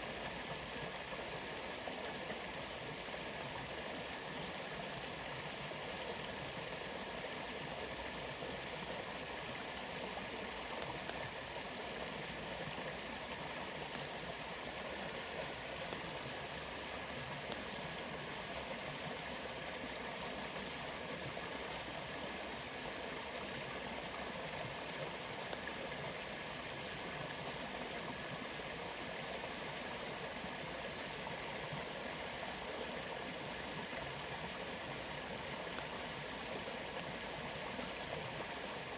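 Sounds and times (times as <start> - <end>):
waterfall and stream rushing: 0.0 - 38.9.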